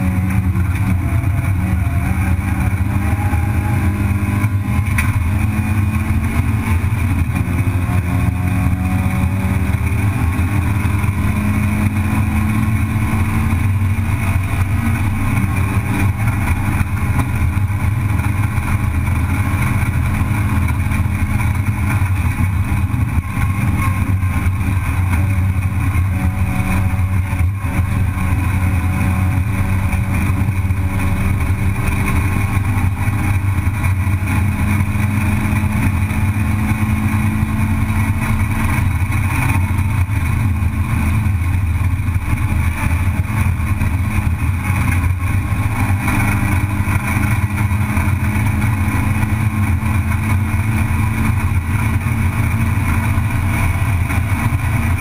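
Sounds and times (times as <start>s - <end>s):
race car engine droning: 0.0s - 55.0s
road and wind noise: 0.0s - 55.0s.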